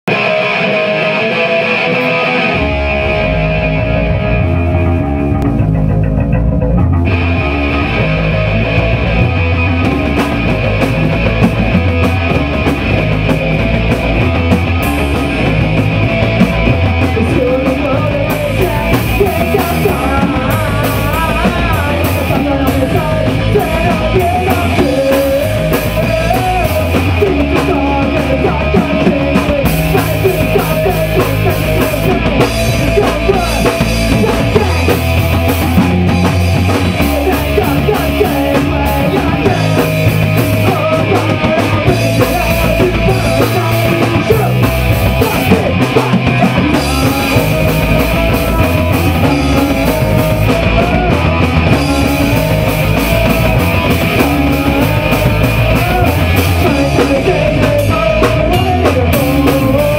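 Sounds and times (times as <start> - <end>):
bass guitar: 0.0 - 59.9
electric guitar: 0.0 - 59.9
drum kit with cymbals: 6.9 - 59.9.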